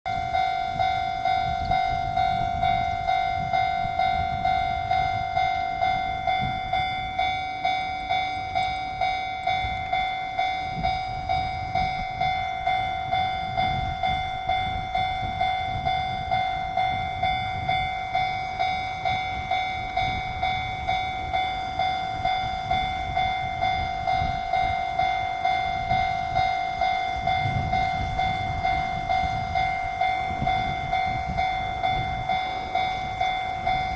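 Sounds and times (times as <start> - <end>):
level crossing bell dinging: 0.1 - 33.9.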